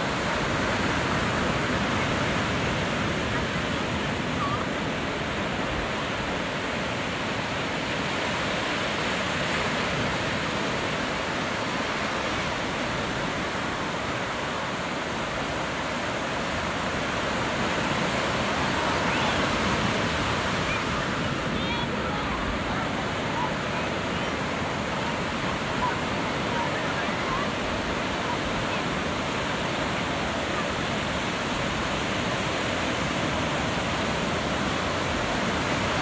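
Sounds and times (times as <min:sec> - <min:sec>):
ocean surf breaking: 0:00.0 - 0:36.0.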